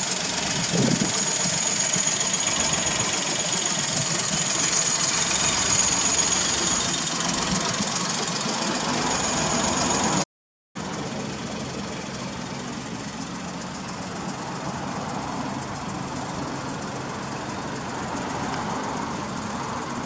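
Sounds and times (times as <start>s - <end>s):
car engine idling: 0.0s - 10.2s, 10.8s - 20.0s.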